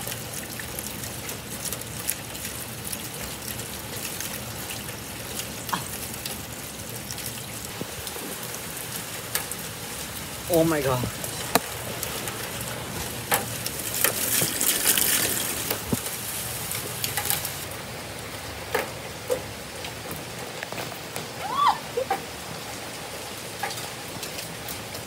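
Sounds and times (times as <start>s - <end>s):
raindrops tapping near microphone: 0.0s - 25.0s
steady rain hiss: 0.0s - 25.0s.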